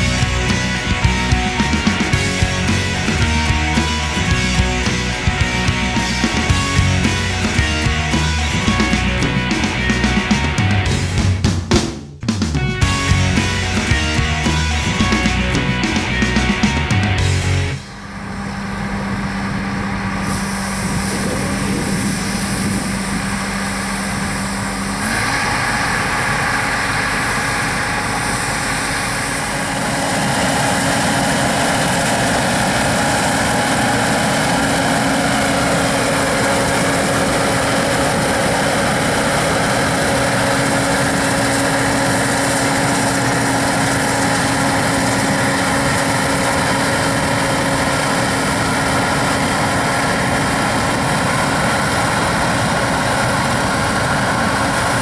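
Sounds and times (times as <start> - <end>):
diesel engine running: 0.0 - 11.6, 12.3 - 55.0.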